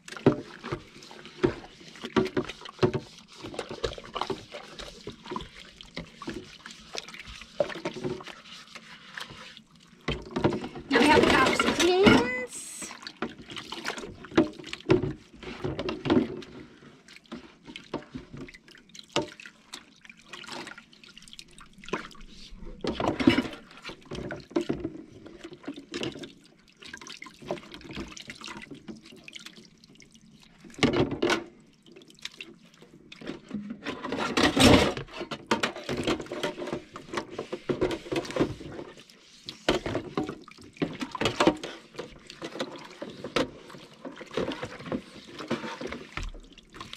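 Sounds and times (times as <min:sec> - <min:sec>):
water splashing and dripping: 0:00.0 - 0:34.5, 0:35.5 - 0:46.9.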